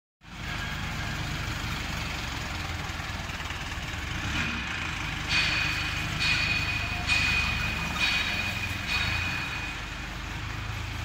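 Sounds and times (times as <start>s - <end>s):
loader engine idling: 0.2s - 11.0s.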